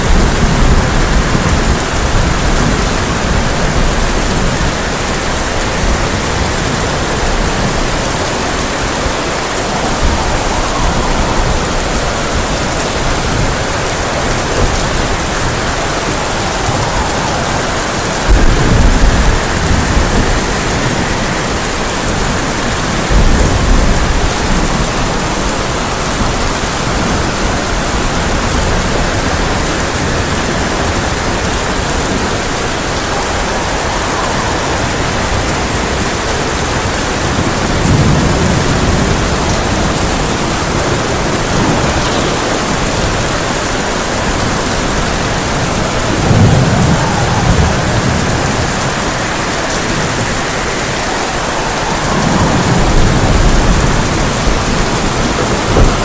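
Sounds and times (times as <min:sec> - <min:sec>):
heavy rain on a tin roof: 0:00.0 - 0:56.0
thunder rumbling: 0:00.0 - 0:56.0.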